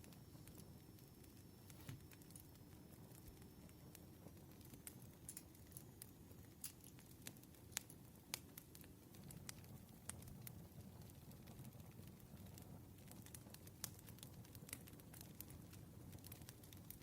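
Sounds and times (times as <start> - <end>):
campfire crackling: 0.0 - 17.0
low rumble of flames: 0.0 - 17.0.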